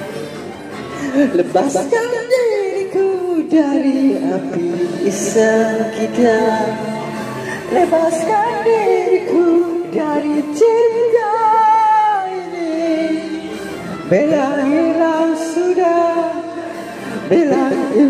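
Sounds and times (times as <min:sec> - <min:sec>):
karaoke backing track: 0:00.0 - 0:18.0
person singing into microphone: 0:00.9 - 0:18.0.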